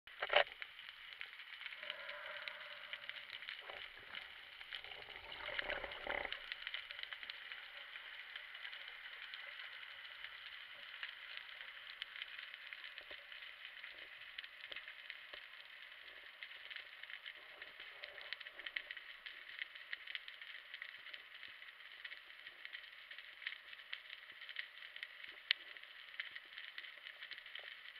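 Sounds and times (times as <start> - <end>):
underwater crackle of tiny clicks: 0.1 - 27.9.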